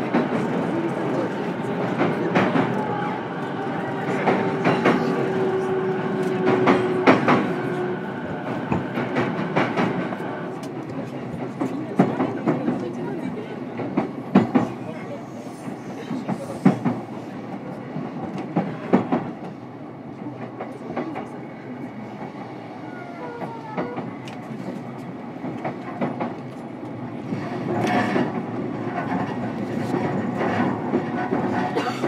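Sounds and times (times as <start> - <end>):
train running noise: 0.0 - 32.0.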